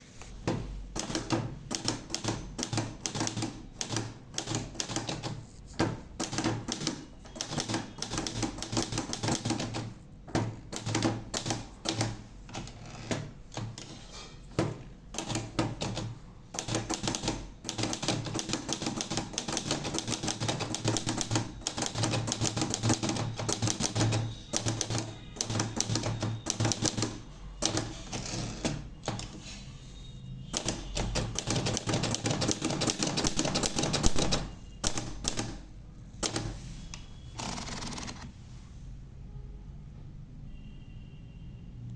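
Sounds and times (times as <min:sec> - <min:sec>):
typewriter keys clacking: 0:00.3 - 0:29.6, 0:30.5 - 0:38.3.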